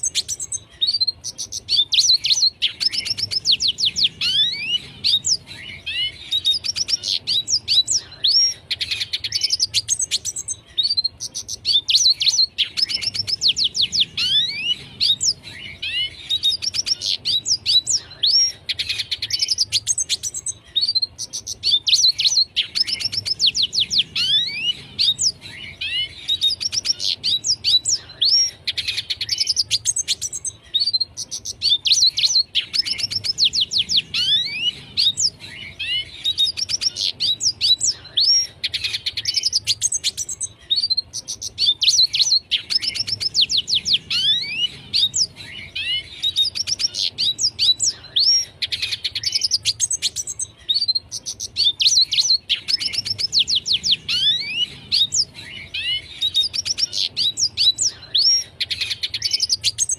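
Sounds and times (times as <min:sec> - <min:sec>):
bird singing trills and whistles: 0:00.0 - 0:59.9.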